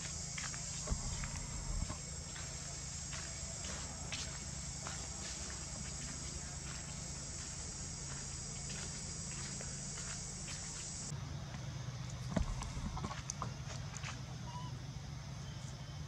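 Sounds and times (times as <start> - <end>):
low hum: 0.0 - 13.5
high insect drone: 0.0 - 16.0.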